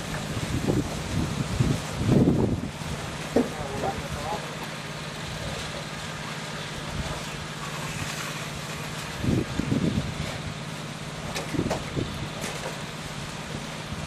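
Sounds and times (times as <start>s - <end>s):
low engine hum: 0.0s - 14.0s
outdoor background noise: 0.0s - 14.0s.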